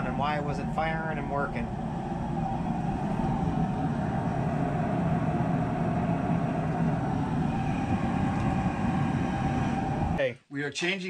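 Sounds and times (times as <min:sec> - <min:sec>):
faint steady tone: 0:00.0 - 0:10.2
oil burner rumbling: 0:00.0 - 0:10.2.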